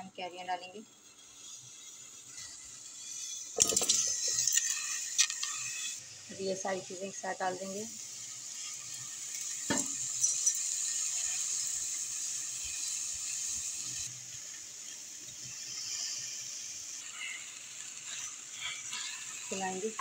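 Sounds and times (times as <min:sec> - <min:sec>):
sugar pouring into pot: 0:00.0 - 0:20.0.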